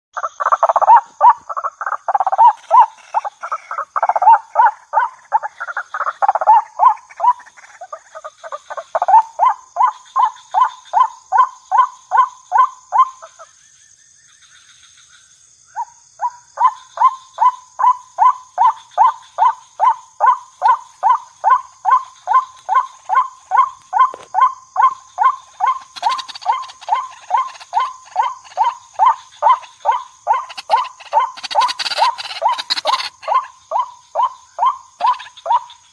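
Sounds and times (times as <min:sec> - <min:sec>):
bird croaking calls: 0:00.2 - 0:13.5, 0:16.2 - 0:35.9.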